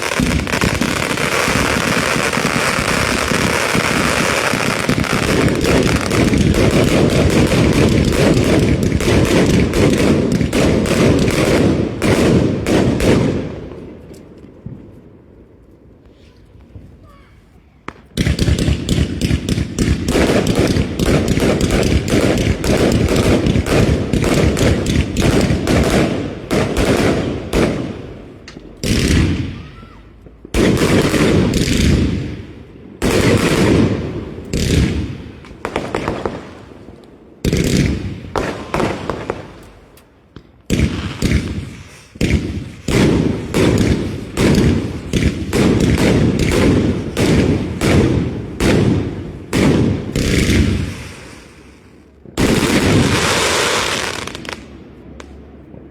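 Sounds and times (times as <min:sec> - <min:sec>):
fireworks bangs: 0:00.0 - 0:55.9.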